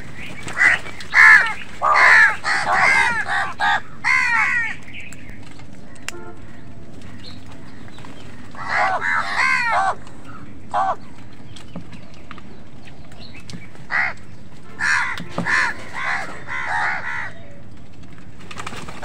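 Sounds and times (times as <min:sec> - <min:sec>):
crows cawing: 0:00.0 - 0:11.2, 0:13.6 - 0:17.7.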